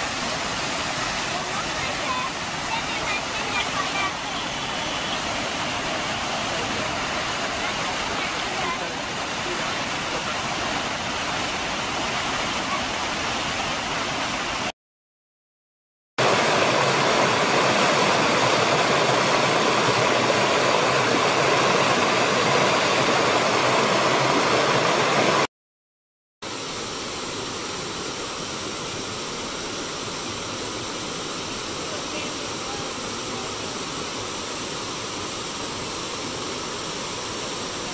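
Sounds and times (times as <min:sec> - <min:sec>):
waterfall rushing: 0:00.0 - 0:14.7, 0:16.2 - 0:25.5, 0:26.4 - 0:37.9.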